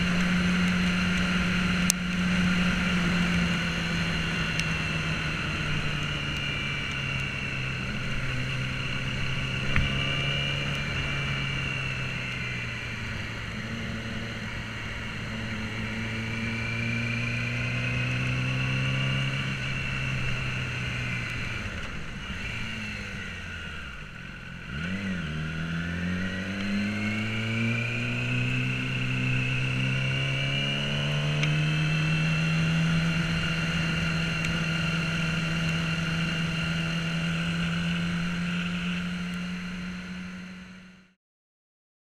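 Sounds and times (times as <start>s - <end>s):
motorcycle engine revving: 0.0s - 41.2s.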